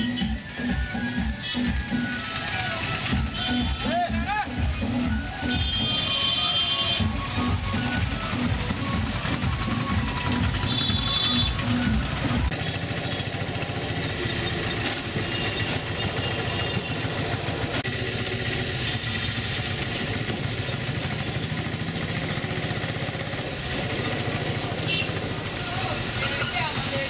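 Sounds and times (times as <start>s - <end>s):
auto-rickshaw engine running: 0.0s - 27.0s.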